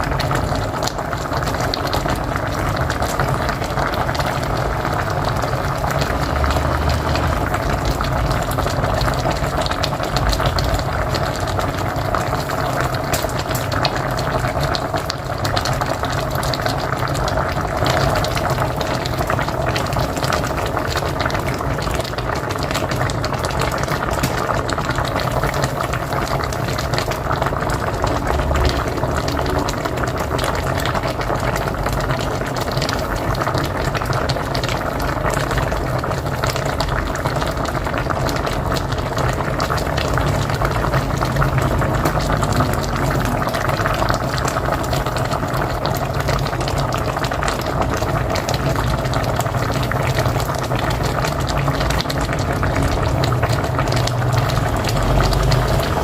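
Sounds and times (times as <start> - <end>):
pot boiling and bubbling: 0.0 - 56.0.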